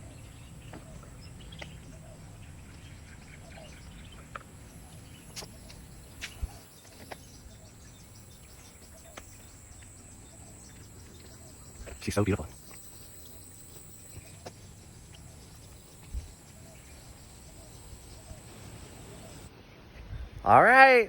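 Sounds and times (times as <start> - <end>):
insect drone: 0.0 - 19.5
faint bird chirps: 0.0 - 20.4.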